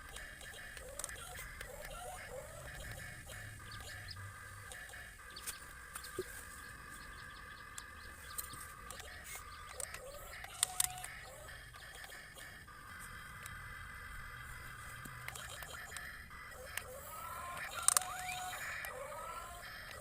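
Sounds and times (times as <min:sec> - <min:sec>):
sharp clicks: 0:00.0 - 0:06.3, 0:06.9 - 0:20.0
chickens clucking: 0:00.0 - 0:20.0.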